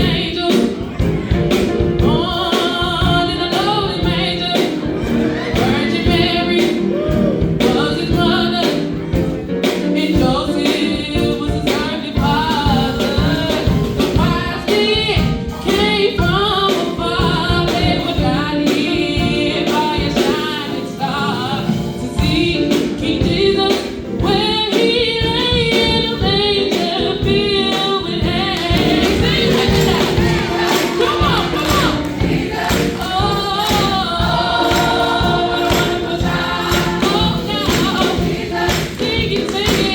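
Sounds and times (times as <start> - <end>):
steady percussive beat: 0.0 - 20.5, 21.7 - 39.9
band accompaniment: 0.0 - 39.9
choir singing gospel song: 0.0 - 39.9.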